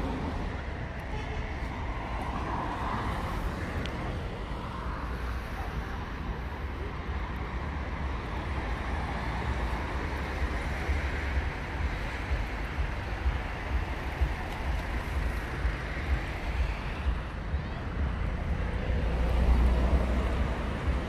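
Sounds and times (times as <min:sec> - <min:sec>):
cars passing on street: 0:00.0 - 0:21.0.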